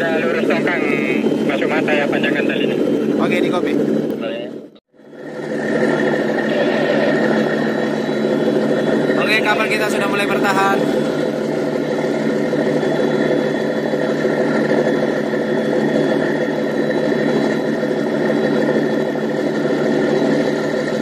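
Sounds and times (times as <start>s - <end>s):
diesel boat engine under load: 0.0s - 21.0s.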